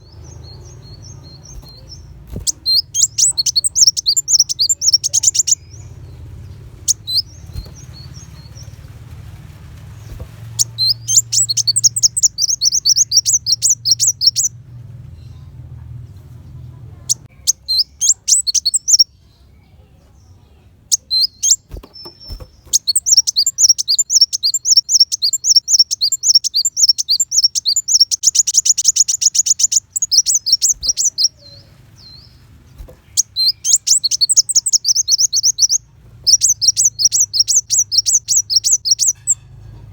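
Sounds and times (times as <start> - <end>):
bird singing high trills: 0.0 - 8.8, 10.0 - 14.6, 17.1 - 19.2, 20.9 - 39.9.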